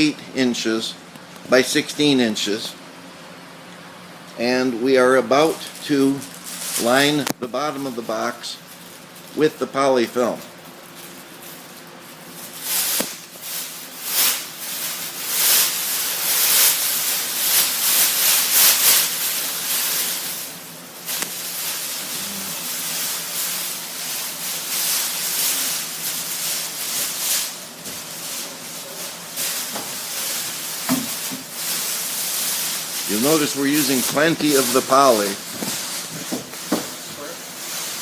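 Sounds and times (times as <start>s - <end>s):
plastic film rustling and crinkling: 4.9s - 38.0s.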